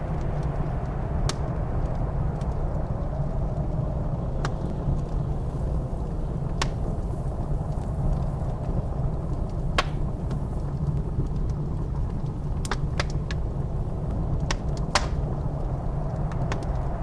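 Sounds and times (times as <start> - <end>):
deep rumble of blizzard wind: 0.0 - 17.0
fire popping: 0.0 - 17.0
wood fire crackling: 0.0 - 17.0.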